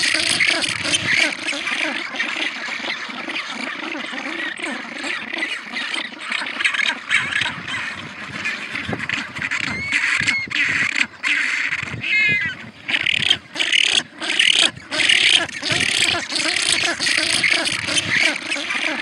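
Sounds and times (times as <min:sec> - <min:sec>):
penguins calling: 0:00.0 - 0:19.0.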